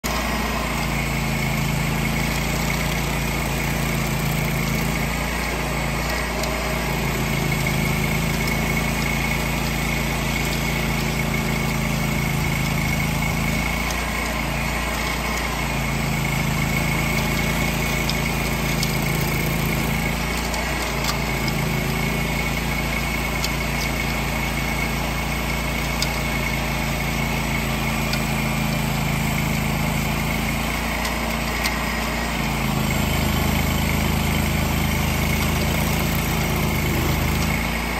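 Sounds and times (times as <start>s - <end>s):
stump grinder running: 0.0s - 37.9s
ticks of wood chips: 0.1s - 37.9s.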